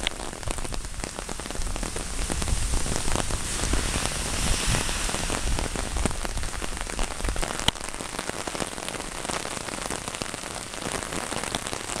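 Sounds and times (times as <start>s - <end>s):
heavy rain falling: 0.0s - 12.0s
raindrops ticking on umbrella: 0.0s - 12.0s.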